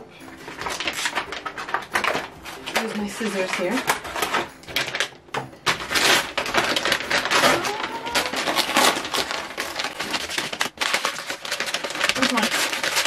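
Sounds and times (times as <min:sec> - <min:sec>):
paper packaging rustling: 0:00.0 - 0:13.0.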